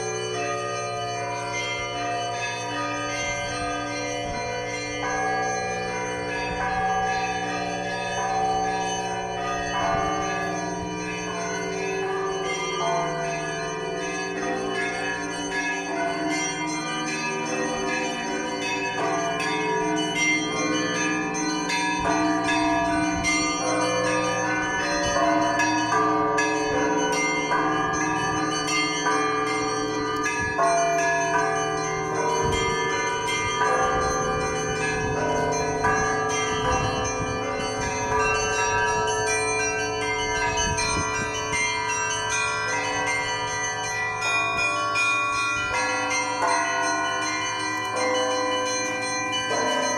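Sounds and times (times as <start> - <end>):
deep church bells ringing: 0.0 - 49.9
small church bells ringing: 0.0 - 49.9.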